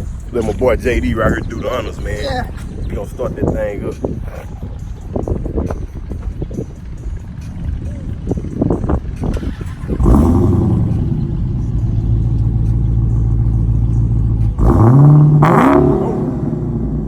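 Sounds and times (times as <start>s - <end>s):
car engine idling: 0.0s - 17.0s
car engine revving: 0.0s - 17.0s
car engine starting up: 0.0s - 17.0s.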